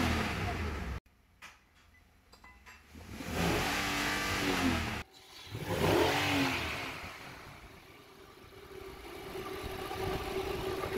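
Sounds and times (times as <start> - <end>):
car engine revving and idling: 0.0 - 1.0, 2.9 - 10.9.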